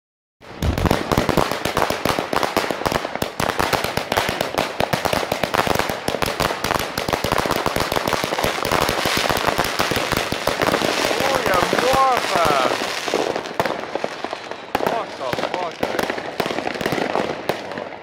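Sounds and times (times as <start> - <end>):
fireworks bangs and crackles: 0.4 - 18.0.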